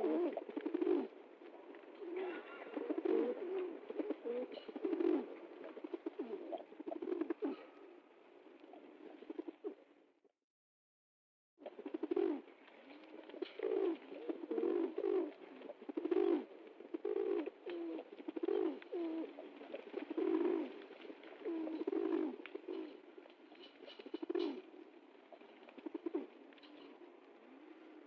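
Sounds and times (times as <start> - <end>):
pigeons cooing: 0.0 - 8.0, 8.6 - 9.9, 11.6 - 28.0.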